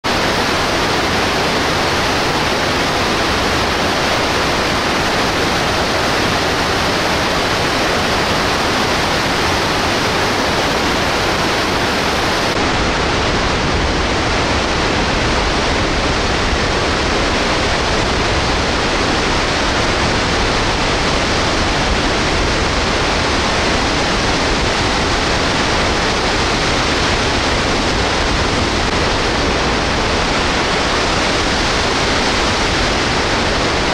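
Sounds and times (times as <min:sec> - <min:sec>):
waterfall crashing into pool: 0:00.0 - 0:33.9.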